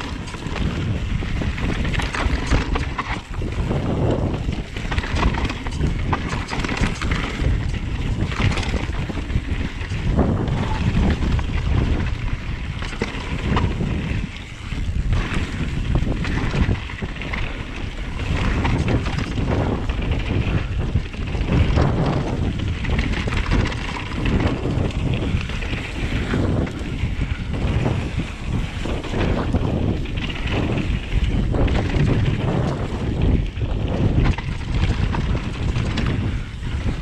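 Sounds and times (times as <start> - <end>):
mountain bike rumbling and rattling: 0.0 - 37.0
wind buffeting microphone: 0.0 - 37.0.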